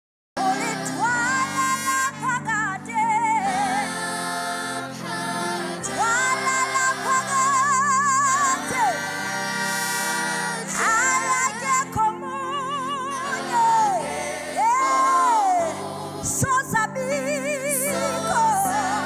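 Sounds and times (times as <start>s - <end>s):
woman singing with vibrato: 0.4s - 4.0s, 5.8s - 9.4s, 10.5s - 19.0s.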